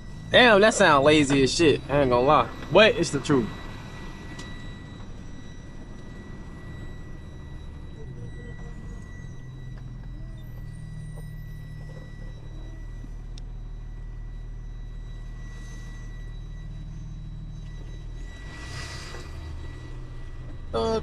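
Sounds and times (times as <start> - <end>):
faint steady whine: 0.0 - 21.0
truck engine rumbling: 0.0 - 21.0.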